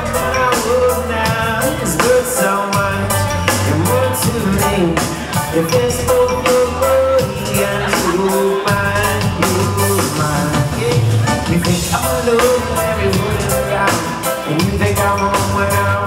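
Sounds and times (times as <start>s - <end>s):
man singing: 0.0s - 16.0s
reggae band playing: 0.0s - 16.0s.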